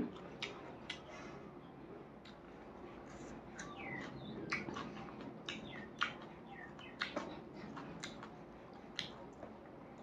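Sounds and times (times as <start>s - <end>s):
person chewing food: 0.0s - 1.4s, 2.2s - 10.0s.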